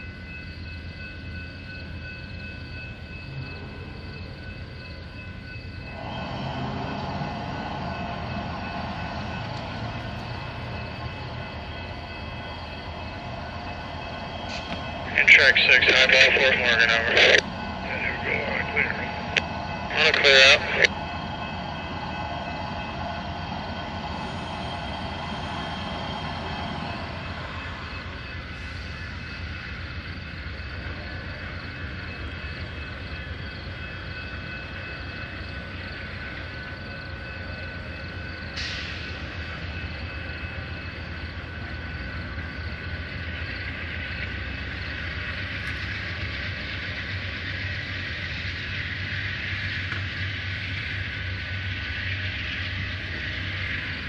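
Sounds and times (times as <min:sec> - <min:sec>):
diesel train rumbling: 0:00.0 - 0:54.0.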